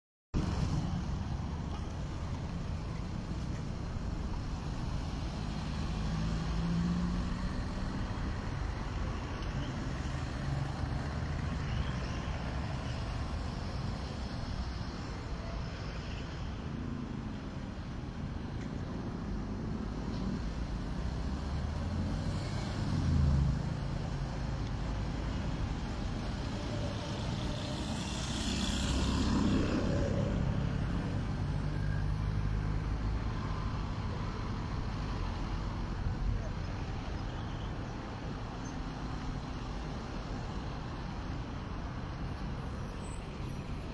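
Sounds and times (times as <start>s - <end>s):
cars and trucks driving past: 0.4s - 43.9s
steady street rumble: 0.4s - 43.9s.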